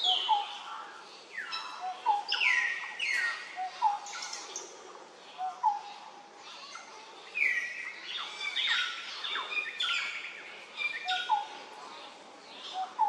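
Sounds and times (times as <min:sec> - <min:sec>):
birds singing whistled notes: 0:00.0 - 0:06.1, 0:07.2 - 0:13.0.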